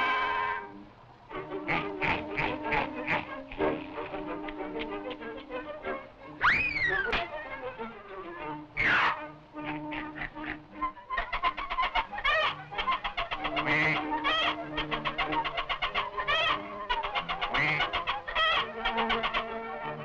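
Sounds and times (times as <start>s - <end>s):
film score music: 0.0s - 20.0s
cartoon chicken clucking: 1.4s - 20.0s
chicken squawk: 1.5s - 7.3s, 8.8s - 20.0s.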